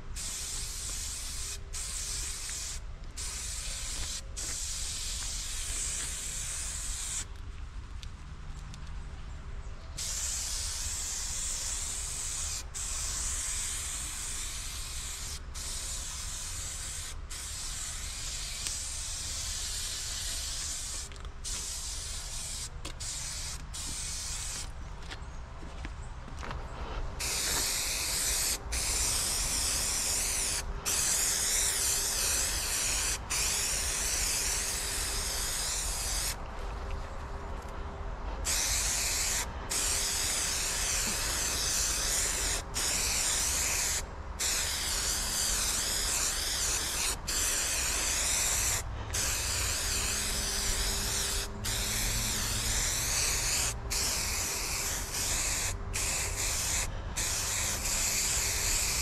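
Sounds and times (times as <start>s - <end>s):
aerosol spray hissing: 0.1s - 7.3s, 10.0s - 24.7s, 27.2s - 36.4s, 38.4s - 59.0s.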